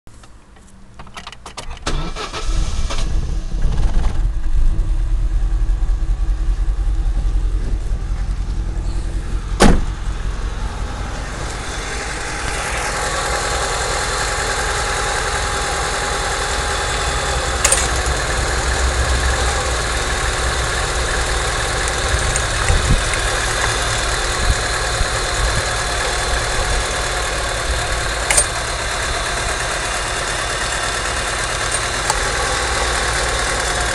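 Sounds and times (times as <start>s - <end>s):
car engine idling: 1.9s - 33.9s.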